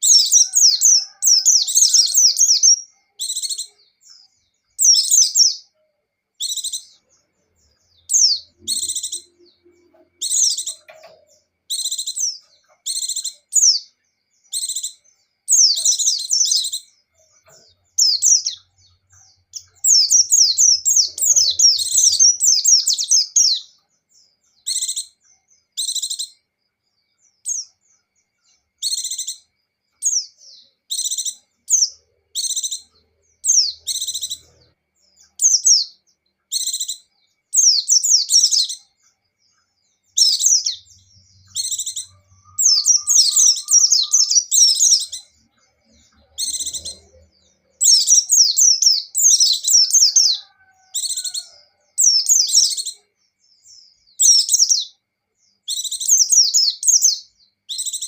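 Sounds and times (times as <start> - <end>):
white-eye high chirping song: 0.0 - 58.0.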